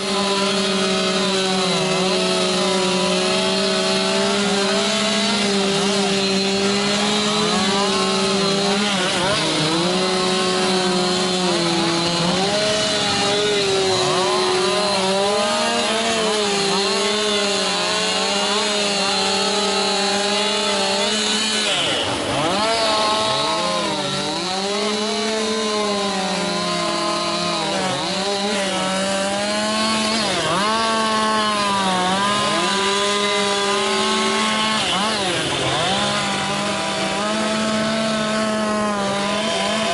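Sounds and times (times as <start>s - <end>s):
chainsaws running: 0.0s - 39.9s.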